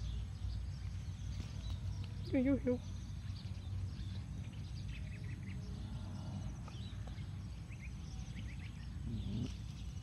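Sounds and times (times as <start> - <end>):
low steady rumble: 0.0 - 10.0
small birds chirping: 0.0 - 10.0.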